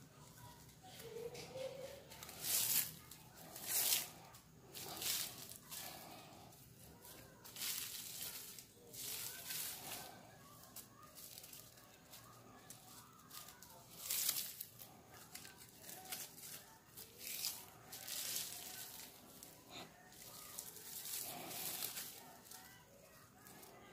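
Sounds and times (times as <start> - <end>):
plastic strands rustling: 0.0 - 23.9.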